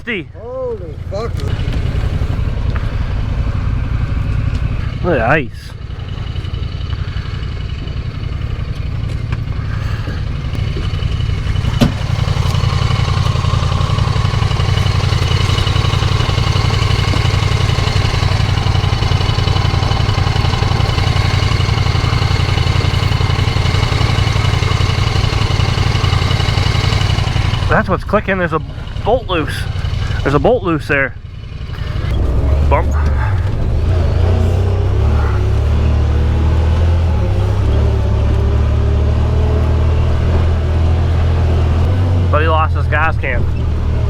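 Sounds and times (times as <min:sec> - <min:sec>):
utility vehicle engine running: 0:00.0 - 0:44.0.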